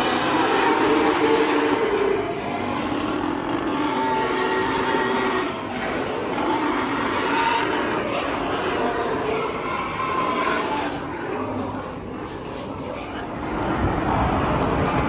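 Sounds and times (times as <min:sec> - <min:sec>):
pigs crying out: 0:00.0 - 0:13.7.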